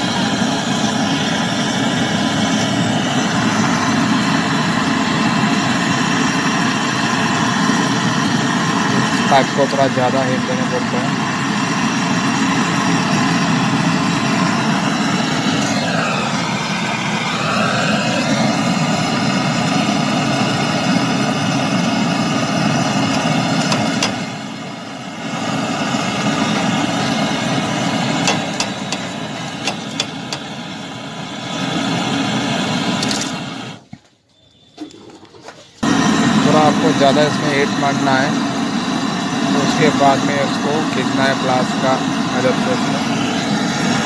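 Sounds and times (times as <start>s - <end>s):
gas torch flame roaring: 0.0s - 33.9s, 35.8s - 44.0s.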